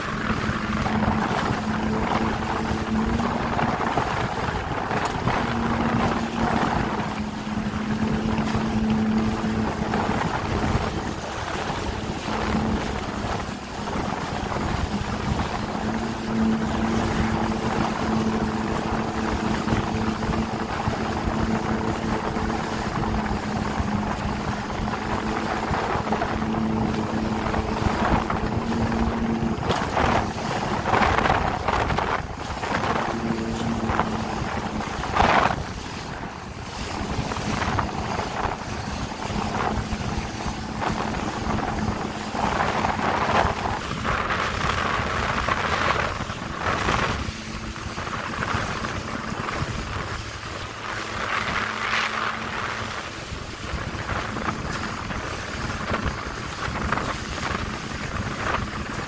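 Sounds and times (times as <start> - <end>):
jet ski engine running: 0.0 - 59.0
water rushing past hull: 0.0 - 59.0
wind buffeting microphone: 0.0 - 59.0.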